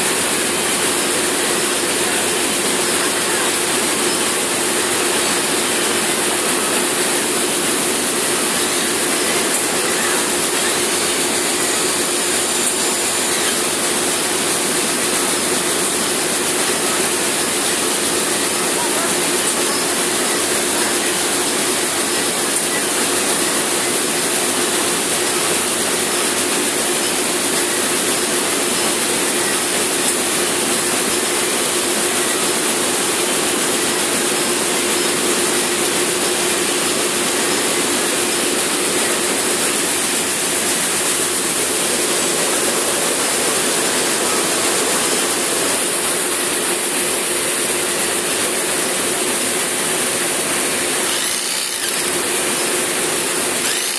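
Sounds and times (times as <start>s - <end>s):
processing machinery running: 0.0s - 53.9s.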